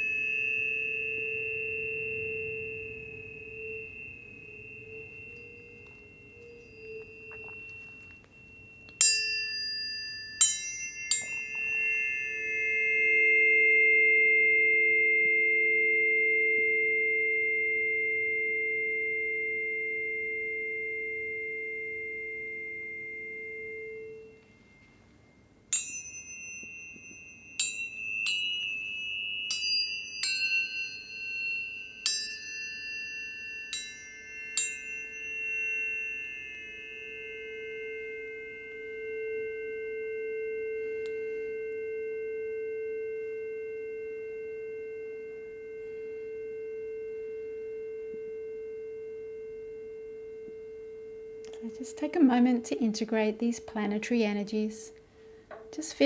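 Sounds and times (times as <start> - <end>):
tuning forks struck and ringing: 0.0 - 56.0.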